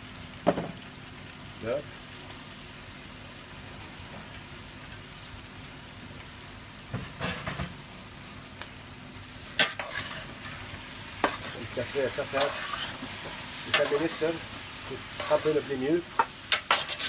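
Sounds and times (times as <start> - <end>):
butter sizzling in a pot: 0.0 - 17.0.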